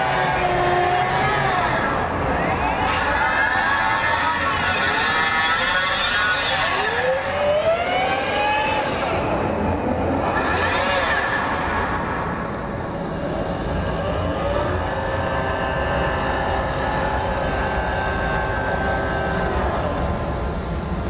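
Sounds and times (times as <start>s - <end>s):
robot motors whining: 0.0s - 21.0s.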